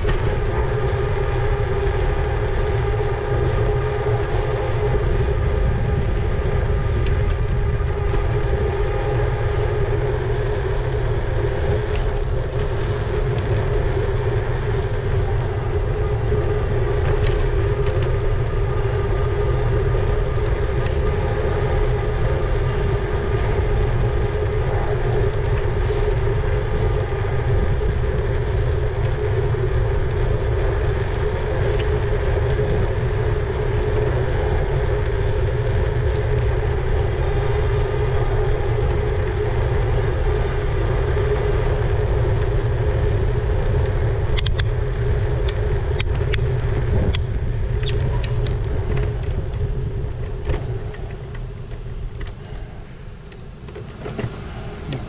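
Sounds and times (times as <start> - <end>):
wind and road noise rumble: 0.0 - 55.0.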